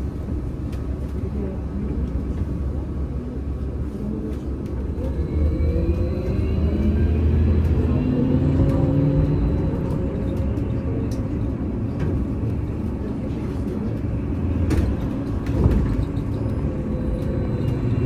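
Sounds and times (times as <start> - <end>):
road rumble: 0.0 - 18.0
trolleybus electric hum: 0.0 - 18.0.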